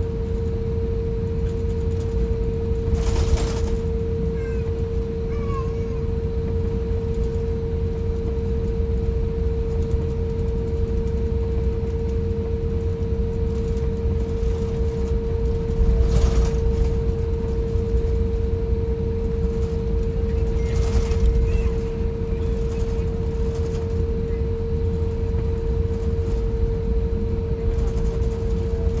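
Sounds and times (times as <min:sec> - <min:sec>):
airliner cabin rumble: 0:00.0 - 0:29.0
constant humming tone: 0:00.0 - 0:29.0.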